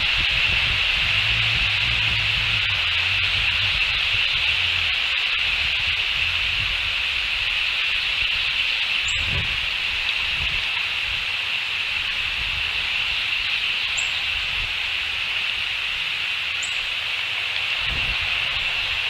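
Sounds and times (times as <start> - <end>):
wind rumble on microphone: 0.0 - 16.1, 17.4 - 19.0.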